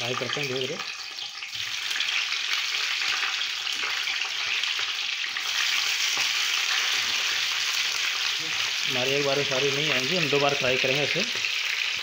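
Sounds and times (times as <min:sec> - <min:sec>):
chillies sizzling in oil: 0:00.0 - 0:12.0.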